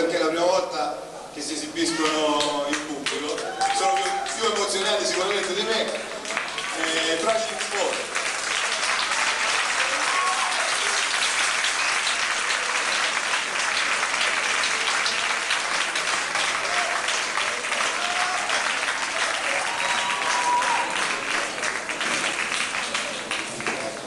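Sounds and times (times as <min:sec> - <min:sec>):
audience applauding: 0:02.0 - 0:24.0.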